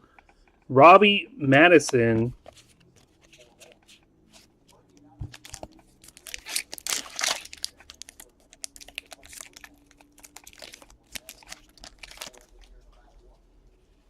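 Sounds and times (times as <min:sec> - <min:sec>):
trading cards and foil wrappers rustling: 0:01.9 - 0:13.4.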